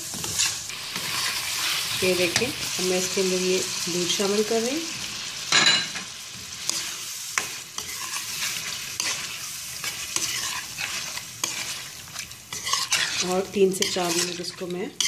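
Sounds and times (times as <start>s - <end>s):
spatula scraping a pan: 0.0s - 2.7s, 5.6s - 15.0s
meat sizzling in a pan: 0.0s - 15.0s.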